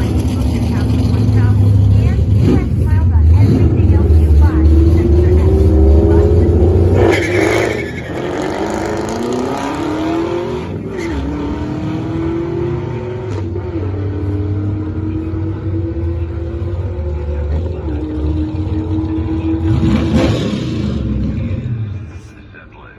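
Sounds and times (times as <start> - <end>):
car engine accelerating hard: 0.0 - 22.4.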